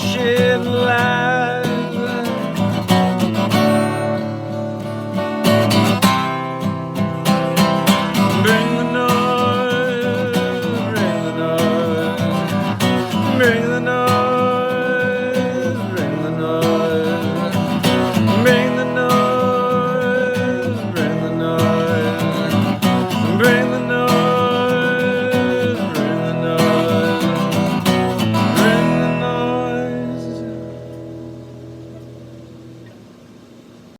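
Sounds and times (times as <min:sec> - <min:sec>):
wordless vocal melody: 0:00.0 - 0:31.7
acoustic guitar strumming: 0:00.0 - 0:33.9.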